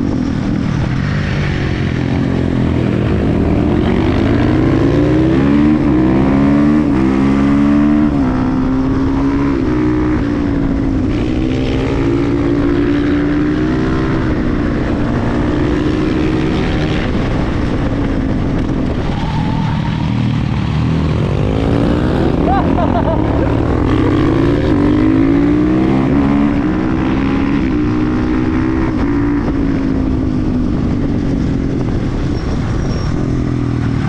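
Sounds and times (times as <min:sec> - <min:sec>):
motorcycle engine accelerating hard: 0:00.0 - 0:34.0.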